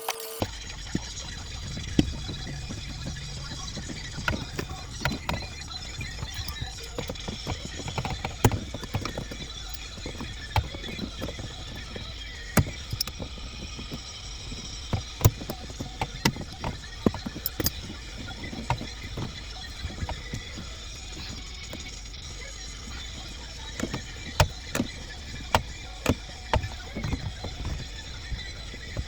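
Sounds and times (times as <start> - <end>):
clicks and knocks: 0.4 - 29.0.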